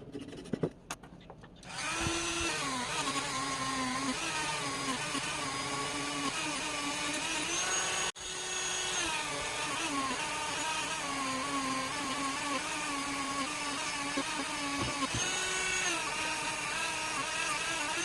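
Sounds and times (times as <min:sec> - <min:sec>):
electric power tool whining: 0:01.6 - 0:18.0.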